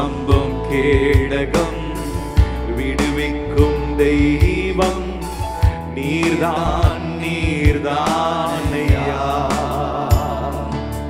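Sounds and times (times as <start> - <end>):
person singing: 0.0 - 11.0.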